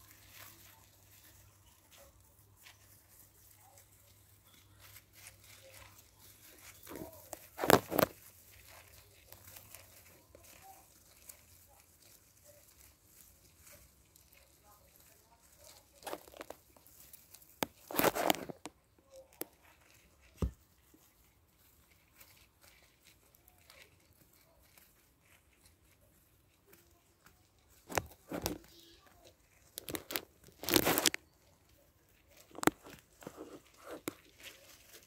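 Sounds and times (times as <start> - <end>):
rustling in wood shavings: 0.0 - 35.0.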